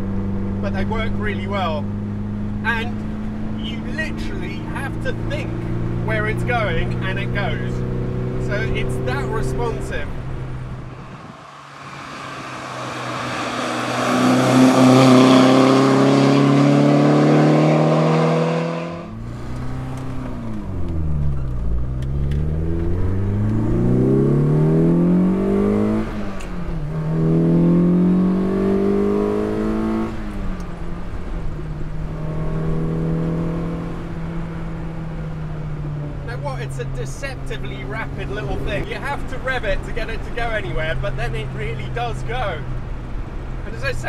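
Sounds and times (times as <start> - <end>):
car engine accelerating: 0.0 - 44.0
car engine revving through gears: 0.0 - 44.0.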